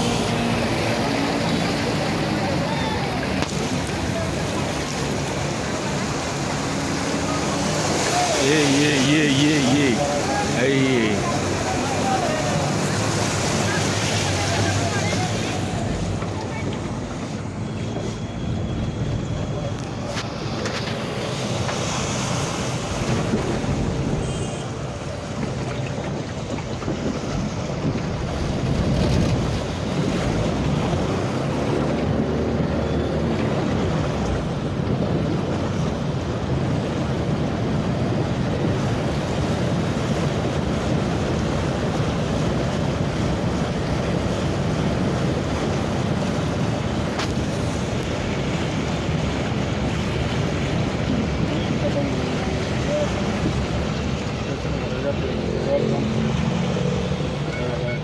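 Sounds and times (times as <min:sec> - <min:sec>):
vehicle engine rumbling: 0:00.0 - 0:58.0
water sloshing and splashing: 0:00.0 - 0:58.0.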